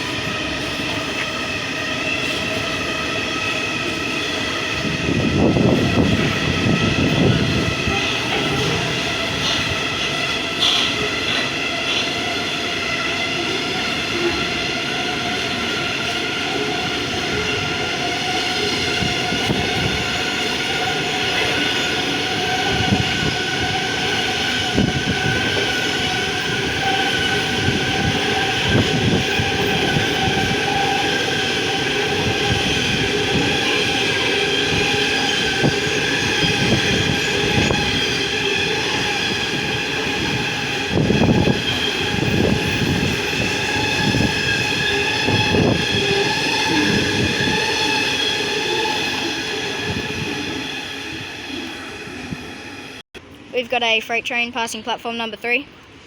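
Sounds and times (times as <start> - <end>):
wheels squealing on rail: 0.0 - 53.0
train wagons rolling past: 0.0 - 53.5.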